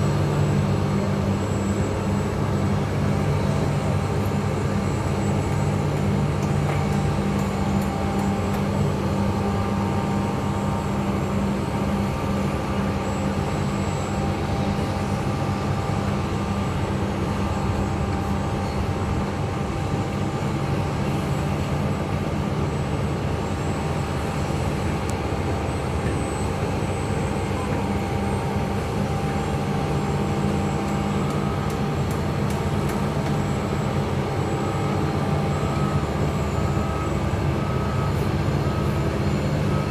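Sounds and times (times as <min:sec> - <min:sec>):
heavy vehicle engine running: 0:00.0 - 0:39.9.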